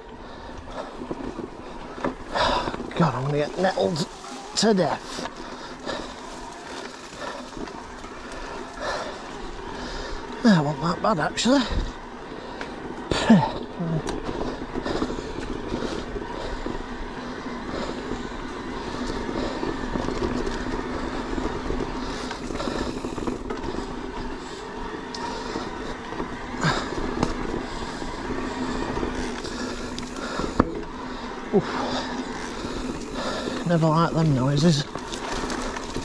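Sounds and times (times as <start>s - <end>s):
tyre and drivetrain rumble: 0.0s - 36.0s.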